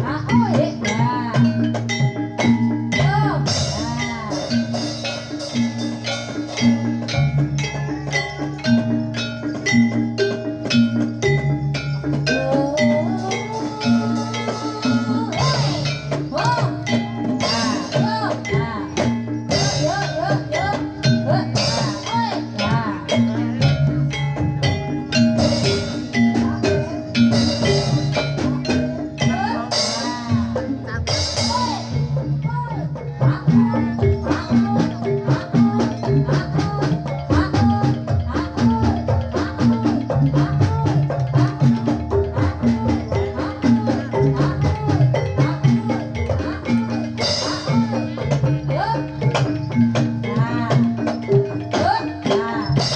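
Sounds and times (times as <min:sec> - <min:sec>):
drums and struck percussion: 0:00.0 - 0:52.9
swooping melody line: 0:00.0 - 0:52.9.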